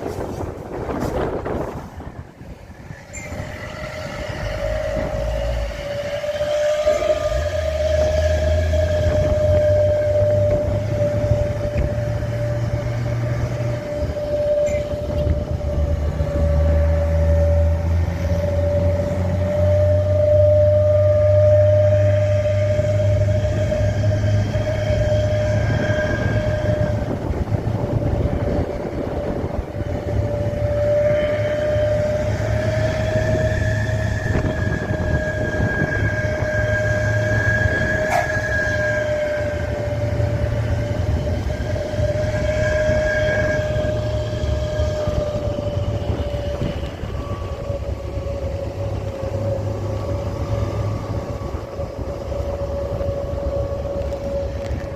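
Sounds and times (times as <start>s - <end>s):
constant high whine: 0.0s - 54.9s
heavy truck engine rumble: 0.0s - 54.9s.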